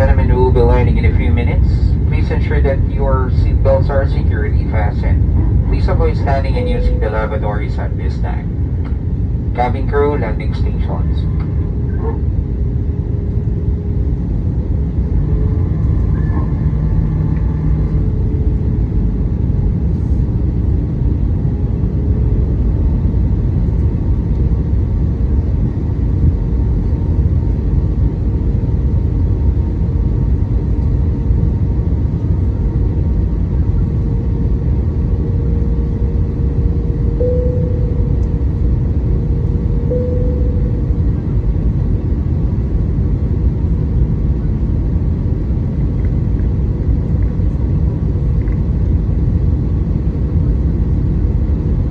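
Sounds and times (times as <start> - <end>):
airliner cabin rumble: 0.0 - 51.9.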